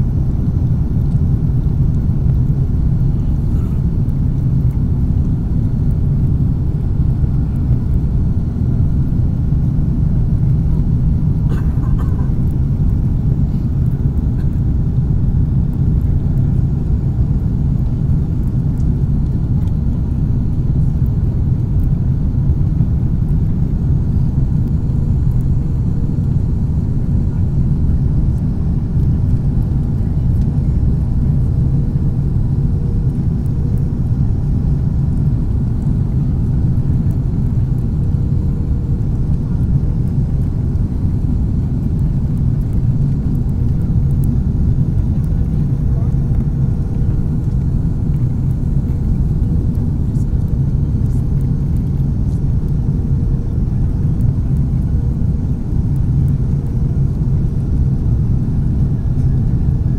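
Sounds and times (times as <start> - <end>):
airliner cabin engine rumble: 0.0 - 59.9
faint steady hum: 0.0 - 59.9.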